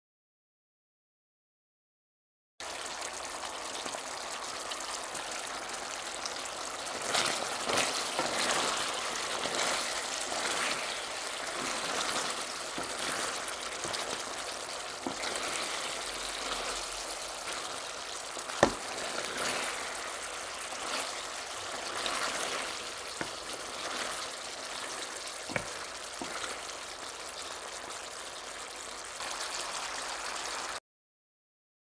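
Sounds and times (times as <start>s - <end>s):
curry sizzling in a pan: 2.6s - 30.8s.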